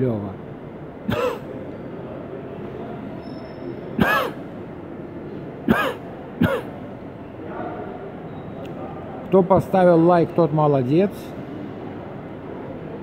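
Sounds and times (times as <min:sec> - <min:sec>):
shopping centre hall hum: 0:00.0 - 0:13.0.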